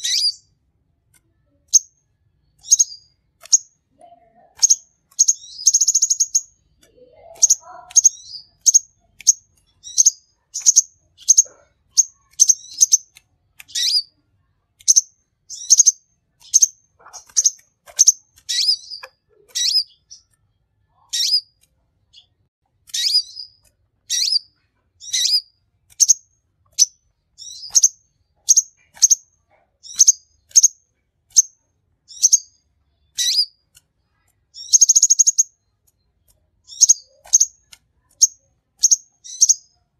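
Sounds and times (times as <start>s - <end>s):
sunbird chirping: 0.0s - 0.5s, 1.4s - 14.1s, 14.8s - 22.3s, 22.9s - 33.6s, 34.5s - 39.8s.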